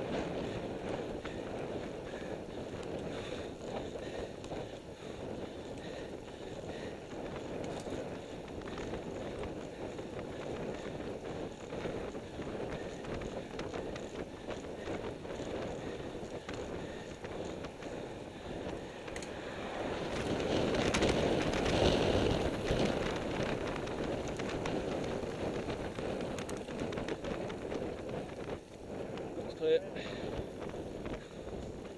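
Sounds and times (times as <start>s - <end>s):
bicycle tyre and drivetrain noise: 0.0s - 31.9s
wind rushing over microphone: 0.0s - 31.9s
small clicks and rattles: 0.1s - 19.4s, 20.1s - 29.3s.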